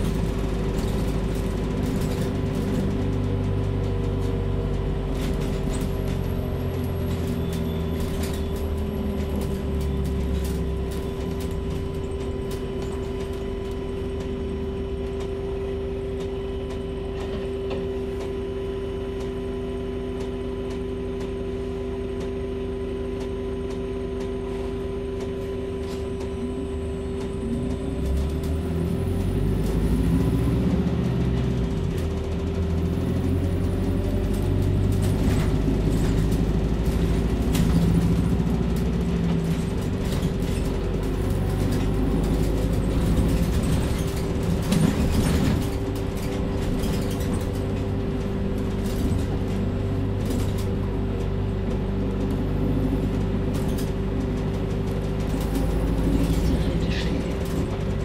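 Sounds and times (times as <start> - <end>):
bus drivetrain whine and drone: 0.0 - 58.0
bus interior rattling and clicking: 0.0 - 58.0.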